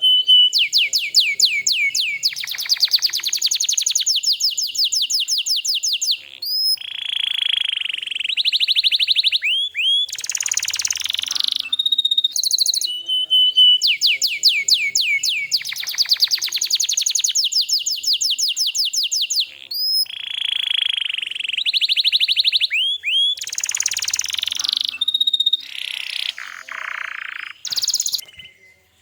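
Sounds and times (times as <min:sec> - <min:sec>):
canary singing trills: 0:00.0 - 0:29.0.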